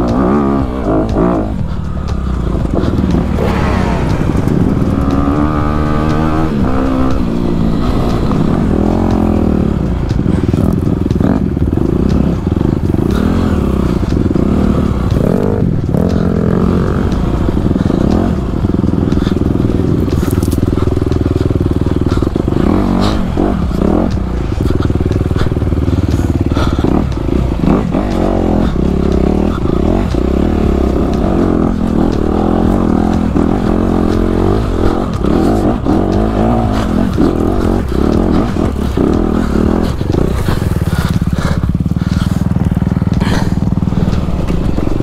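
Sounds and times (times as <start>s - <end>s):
bike rattling and knocking: 0.0s - 45.0s
dirt bike engine revving: 0.0s - 45.0s.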